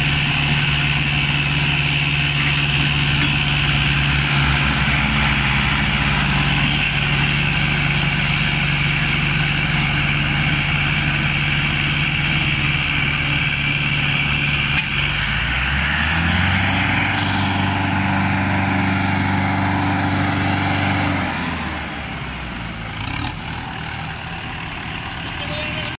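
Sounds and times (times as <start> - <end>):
tractor diesel engines straining: 0.0 - 26.0.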